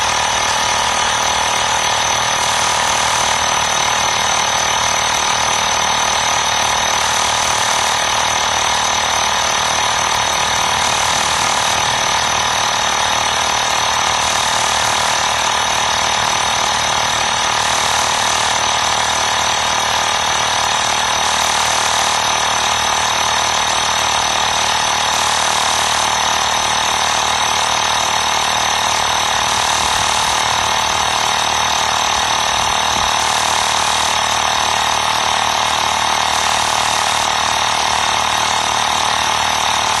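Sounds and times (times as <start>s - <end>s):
air compressor rattling: 0.0s - 40.0s.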